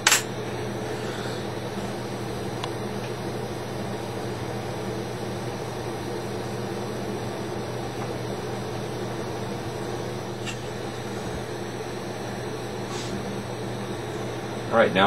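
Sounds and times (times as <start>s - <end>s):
constant low hum: 0.0s - 15.0s
torch flame hissing: 0.0s - 15.0s.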